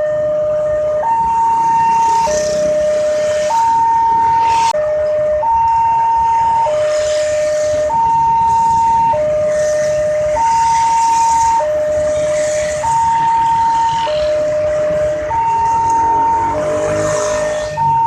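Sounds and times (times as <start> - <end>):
two-tone warning siren: 0.0 - 18.0.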